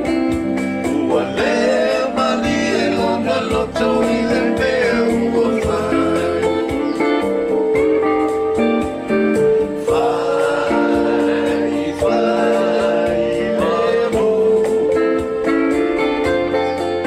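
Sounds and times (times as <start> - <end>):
people singing with instruments: 0.0 - 7.8, 9.4 - 17.0.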